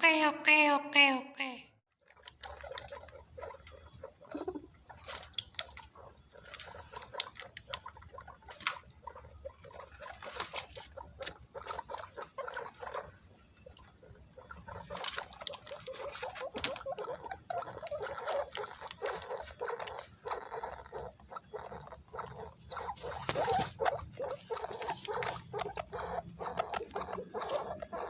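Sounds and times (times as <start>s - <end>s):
guinea pigs squeaking: 1.9s - 28.0s.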